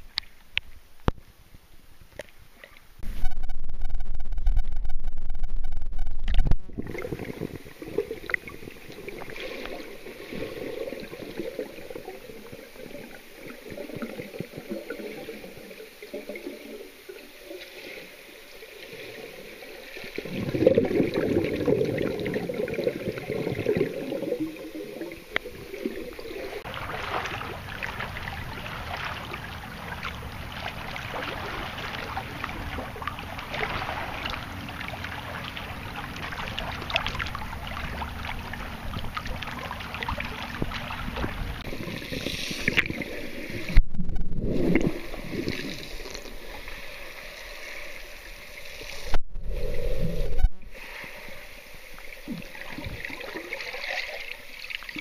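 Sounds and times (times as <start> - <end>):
water sloshing and gurgling: 6.0 - 55.0.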